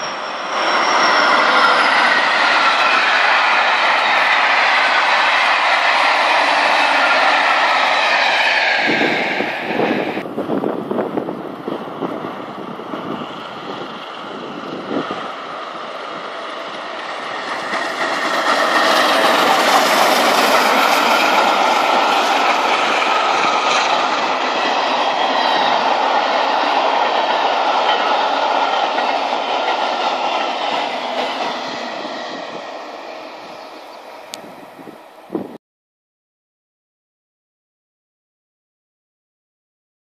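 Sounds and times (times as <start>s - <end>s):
train wheels on rails: 0.0s - 35.6s.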